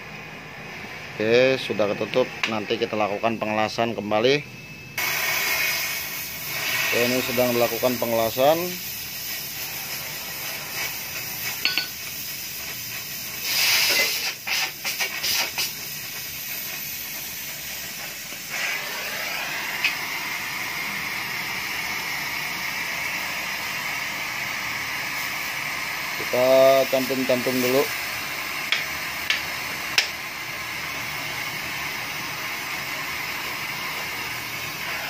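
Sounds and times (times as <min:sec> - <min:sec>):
arc welding hiss and crackle: 0:05.0 - 0:35.0.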